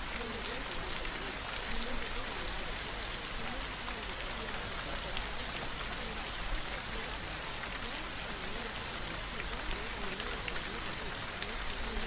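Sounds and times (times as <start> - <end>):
faint indistinct voice: 0.0 - 12.0
soft rain patter: 0.0 - 12.0.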